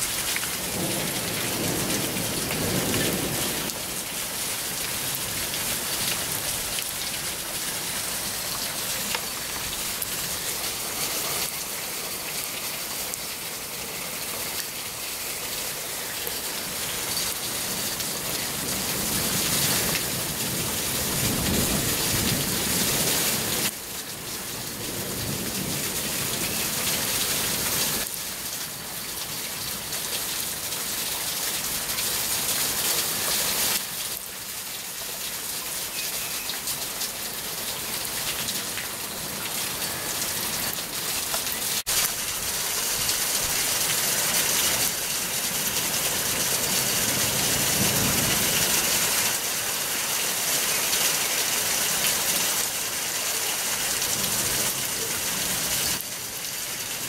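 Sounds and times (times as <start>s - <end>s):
hail and rain falling hard: 0.0s - 57.0s.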